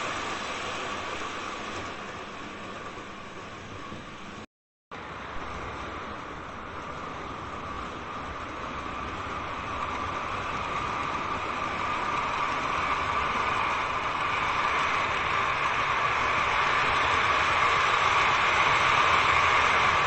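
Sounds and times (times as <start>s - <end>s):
model train whirring on track: 0.0s - 4.4s, 5.0s - 20.0s.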